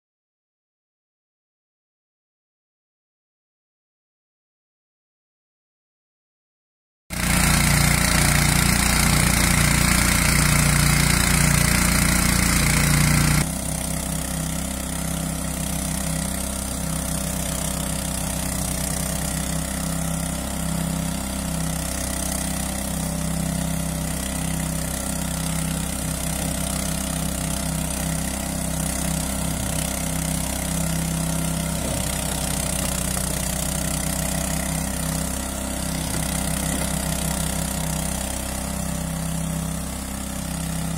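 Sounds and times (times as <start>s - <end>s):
small petrol engine running: 7.1s - 40.9s.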